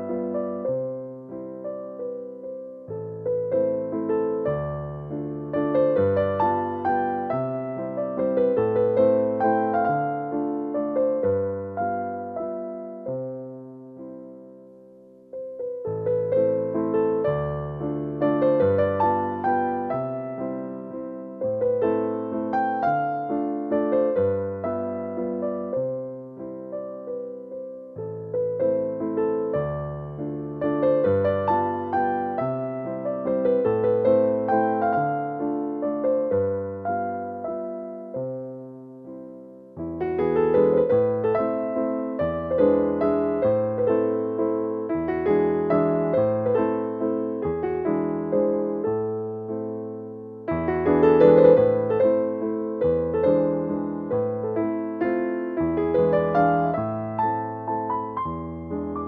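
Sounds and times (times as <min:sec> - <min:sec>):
gentle keyboard melody: 0:00.0 - 0:59.0.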